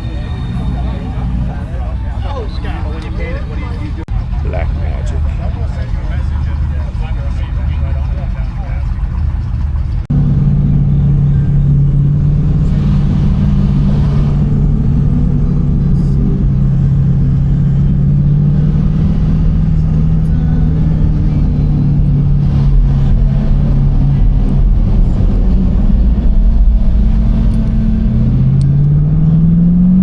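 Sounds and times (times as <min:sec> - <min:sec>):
car engine accelerating: 0:00.0 - 0:30.0
low rumble: 0:00.0 - 0:30.0.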